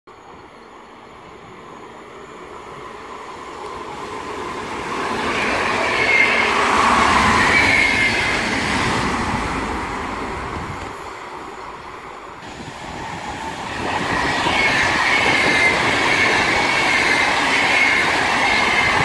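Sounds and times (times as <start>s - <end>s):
electric train passing: 0.1s - 19.0s.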